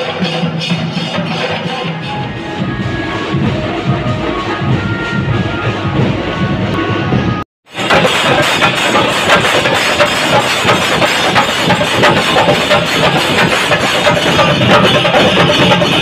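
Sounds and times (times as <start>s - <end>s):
drums beaten fast with sticks: 0.0s - 16.0s.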